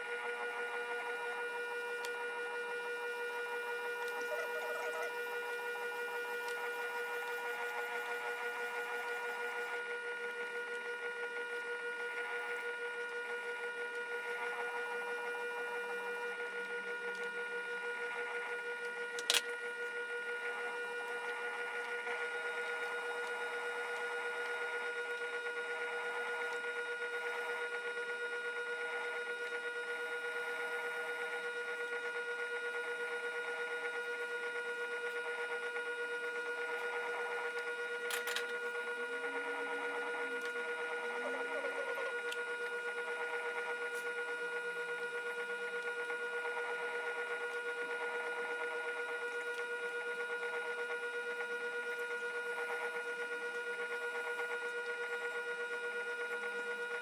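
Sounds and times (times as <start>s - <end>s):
pottery wheel motor whirring: 0.0s - 57.0s.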